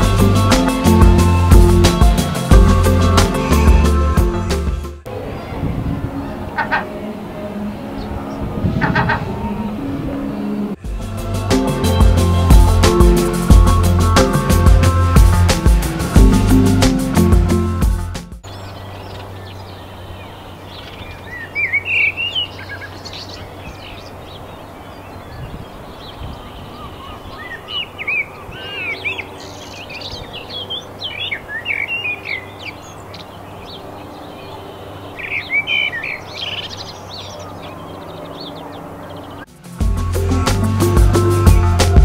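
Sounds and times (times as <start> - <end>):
songbirds chirping: 0.0 - 17.7, 18.4 - 42.0.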